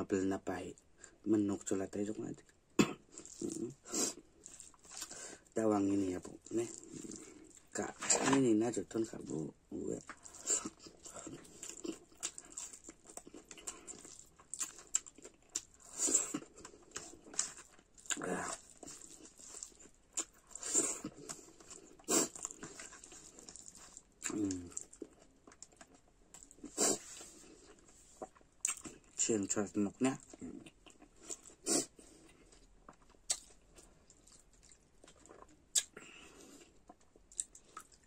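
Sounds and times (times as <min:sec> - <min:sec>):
man chewing and lip-smacking: 0:02.4 - 0:05.5, 0:06.2 - 0:07.8, 0:10.0 - 0:29.2, 0:30.2 - 0:38.0.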